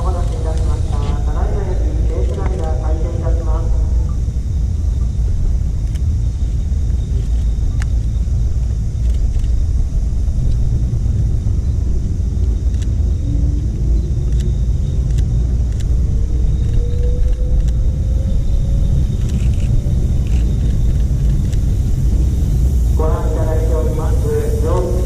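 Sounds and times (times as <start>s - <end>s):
faint rising whine: 0.0s - 25.0s
steady low rumble: 0.0s - 25.0s.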